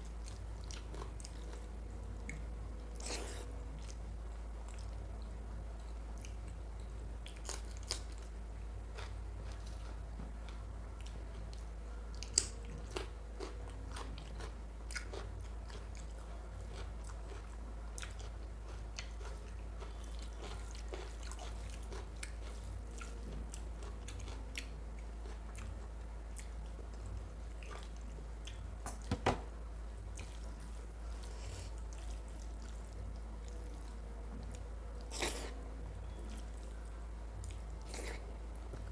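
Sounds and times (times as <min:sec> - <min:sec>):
person chewing food: 0:00.0 - 0:29.1, 0:29.9 - 0:38.9
steady low hum: 0:00.0 - 0:38.9.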